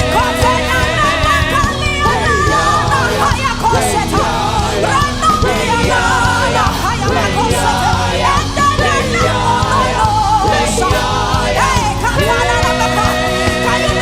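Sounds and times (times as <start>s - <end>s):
gospel music instruments: 0.0s - 14.0s
voices singing and shouting: 0.0s - 14.0s.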